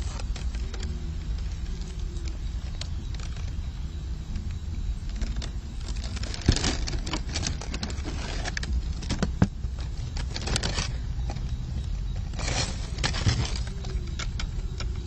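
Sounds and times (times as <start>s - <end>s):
crackling rustling clicks: 0.0s - 15.0s
steady low rumble: 0.0s - 15.0s.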